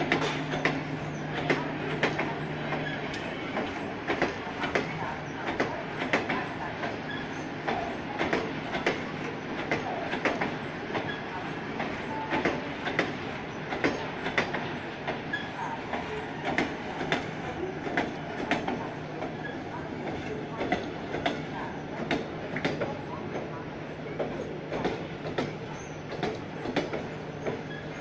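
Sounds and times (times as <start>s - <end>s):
wheels clacking over rail joints: 0.0s - 23.5s, 24.1s - 28.0s
train wheels rumbling: 0.0s - 28.0s.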